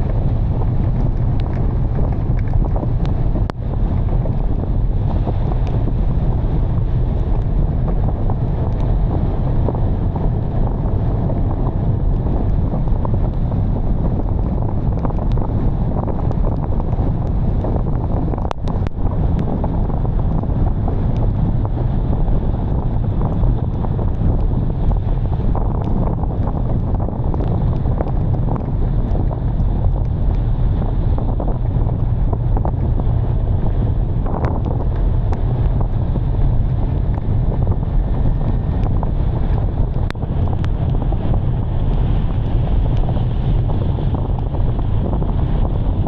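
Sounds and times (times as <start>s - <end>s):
light clicks of rain: 0.0s - 6.1s, 6.7s - 45.7s
wind buffeting microphone: 0.0s - 46.0s.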